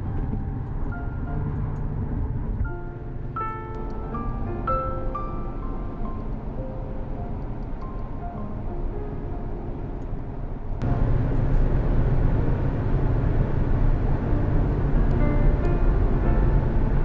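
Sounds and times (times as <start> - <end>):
low steady rumble: 0.0 - 17.0
soft background music: 0.0 - 17.0.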